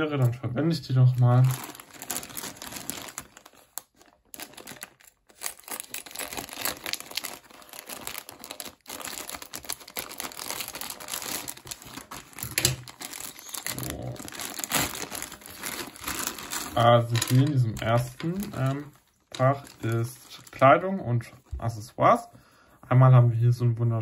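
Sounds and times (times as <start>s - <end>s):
plastic bag crinkling: 0.0s - 21.5s.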